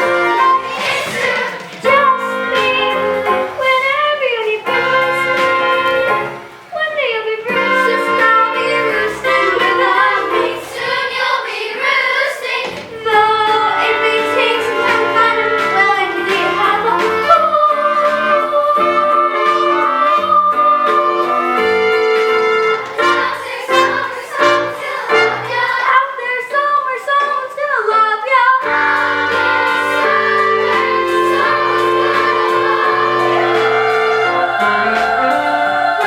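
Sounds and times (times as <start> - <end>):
instrumental accompaniment: 0.0 - 6.7, 7.4 - 26.3, 28.6 - 36.0
voices singing: 0.0 - 36.0.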